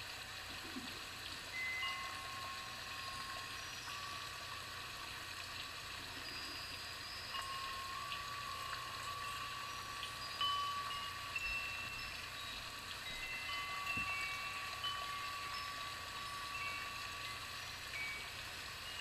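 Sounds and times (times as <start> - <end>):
running water hiss: 0.0 - 19.0
sustained chime-like tones: 1.5 - 5.2, 6.0 - 19.0.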